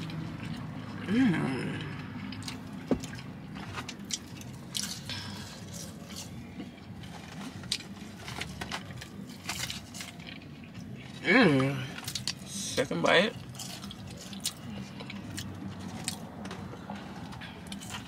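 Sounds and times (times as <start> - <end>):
low steady hum: 0.0 - 18.0
wet chewing: 1.8 - 18.0.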